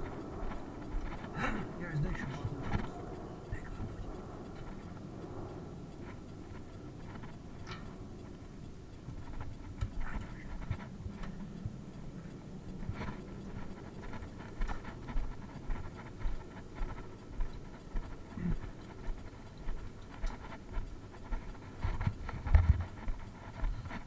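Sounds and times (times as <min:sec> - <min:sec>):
footsteps walking: 0:00.0 - 0:24.0.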